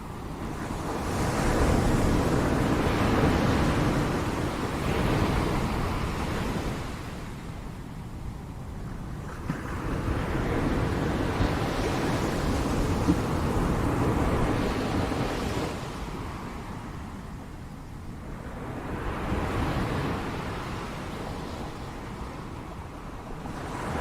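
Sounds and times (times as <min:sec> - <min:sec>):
ocean surf washing on beach: 0:00.0 - 0:17.6, 0:18.2 - 0:24.0
wind rumbling on microphone: 0:00.0 - 0:24.0.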